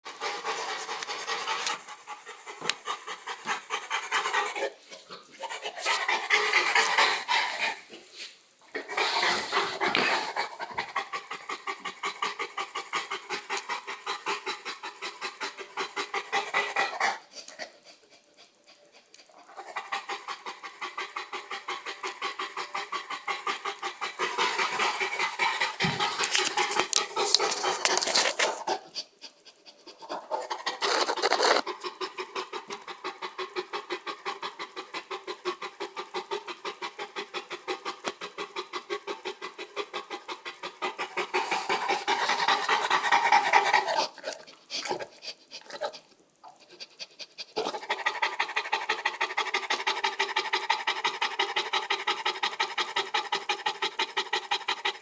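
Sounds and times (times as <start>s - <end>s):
dog panting heavily: 0.0s - 4.8s, 9.0s - 45.8s, 46.6s - 55.0s.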